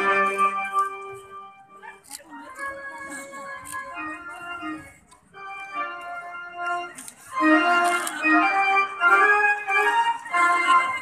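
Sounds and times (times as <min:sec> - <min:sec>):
organ-like keyboard music: 0:00.0 - 0:11.0.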